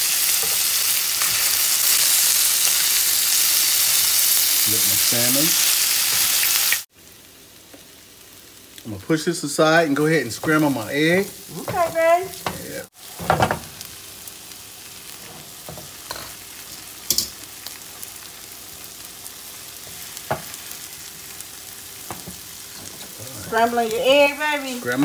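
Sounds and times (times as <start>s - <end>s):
egg sizzling in frying pan: 0.0s - 25.0s.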